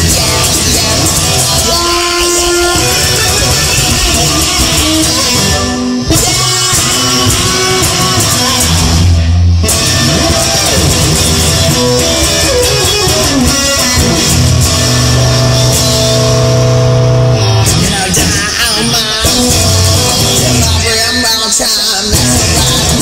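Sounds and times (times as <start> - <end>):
bass line: 0.0 - 21.5, 22.1 - 23.0
electric guitar held notes: 0.0 - 23.0.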